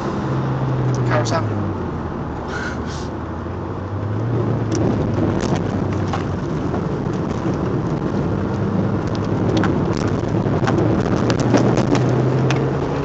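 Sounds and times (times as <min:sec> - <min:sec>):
car engine inside cabin: 0:00.0 - 0:13.0
road and tyre noise: 0:00.0 - 0:13.0.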